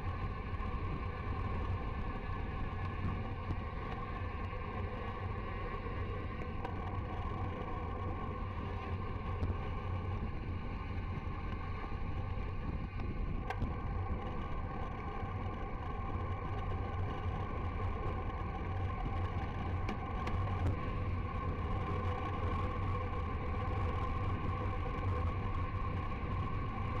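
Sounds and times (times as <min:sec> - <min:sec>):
wind and road noise from bicycle: 0:00.0 - 0:27.0.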